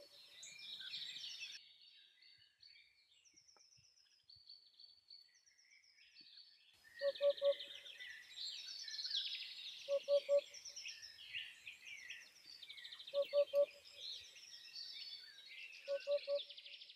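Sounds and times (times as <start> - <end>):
small birds chirping and trilling: 0.0 - 16.9.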